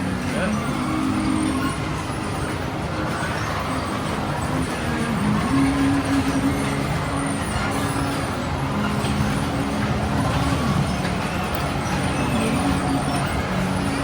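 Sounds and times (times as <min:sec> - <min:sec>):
ride machinery humming: 0:00.0 - 0:14.0.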